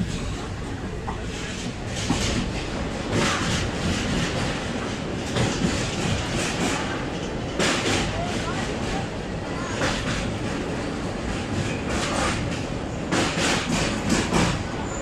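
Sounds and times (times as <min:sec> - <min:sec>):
train coach rumbling at speed: 0:00.0 - 0:15.0
wheels clacking over rail joints: 0:00.0 - 0:15.0.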